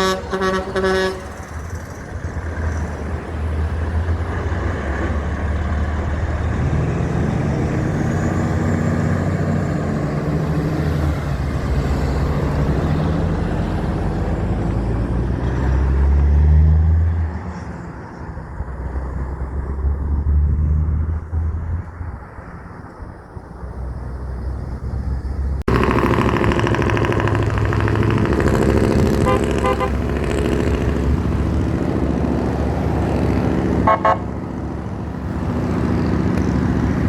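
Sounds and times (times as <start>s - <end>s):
heavy truck engine running: 0.0s - 37.0s.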